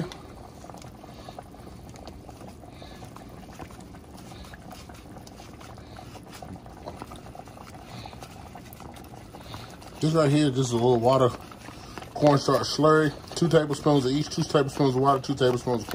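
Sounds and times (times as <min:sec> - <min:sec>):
sauce boiling and popping: 0:00.0 - 0:15.9.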